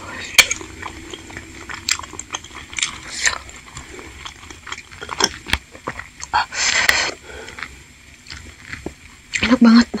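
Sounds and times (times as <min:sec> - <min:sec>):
chewing: 0:00.1 - 0:09.6.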